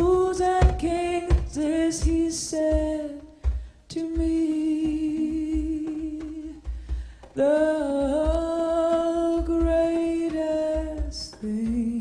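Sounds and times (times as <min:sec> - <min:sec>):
soft hand-drum beat: 0:00.0 - 0:12.0
woman singing long wordless notes: 0:00.0 - 0:12.0.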